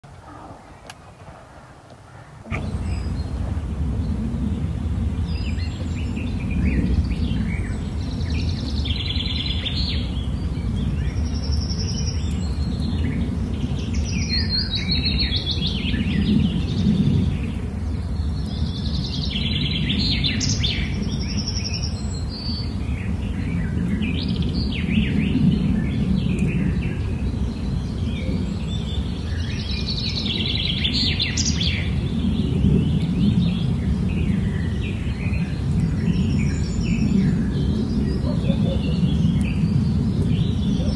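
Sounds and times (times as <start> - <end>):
steady low rumble: 0.0 - 40.9
birds chirping and singing: 2.2 - 40.9.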